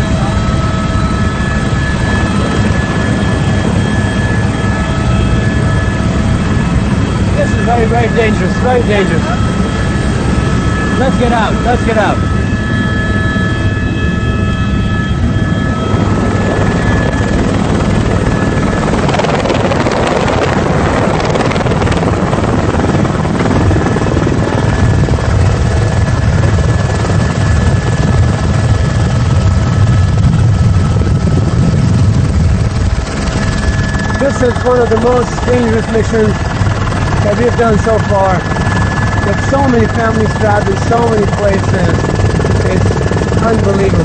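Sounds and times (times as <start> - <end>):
helicopter rotor beating: 0.0 - 44.0.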